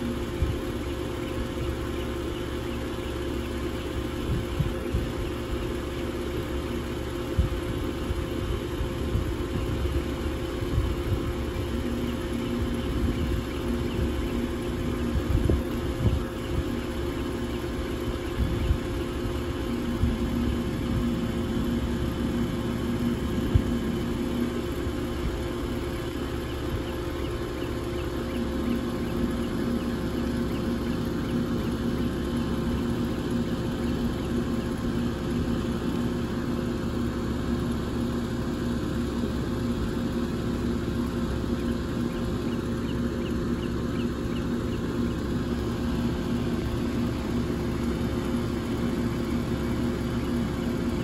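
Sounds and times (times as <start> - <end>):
air conditioner humming: 7.2 - 51.0.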